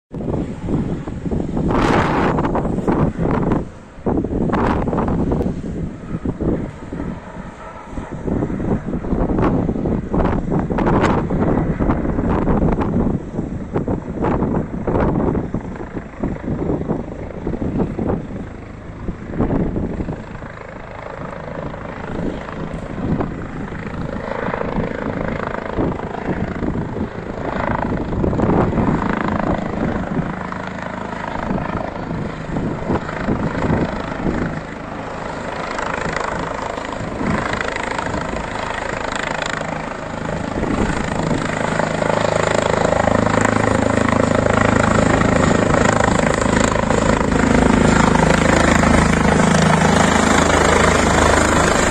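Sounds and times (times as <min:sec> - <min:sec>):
helicopter rotor and turbine: 0:00.1 - 0:51.9.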